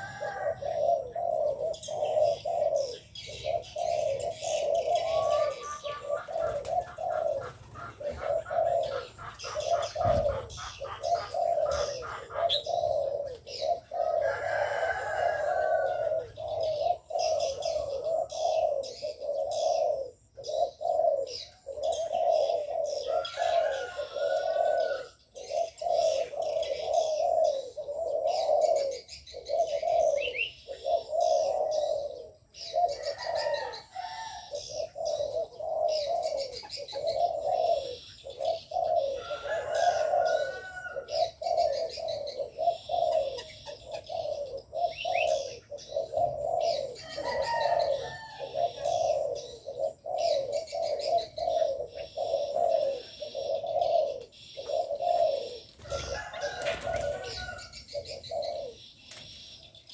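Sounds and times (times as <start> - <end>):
doves cooing: 0.0 - 59.9
small birds chirping: 0.0 - 59.9.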